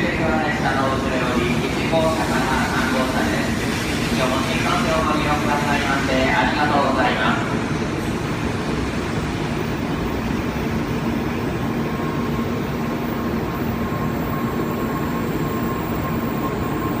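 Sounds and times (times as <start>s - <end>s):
faint train whine: 0.0s - 17.0s
train rumbling: 0.0s - 17.0s.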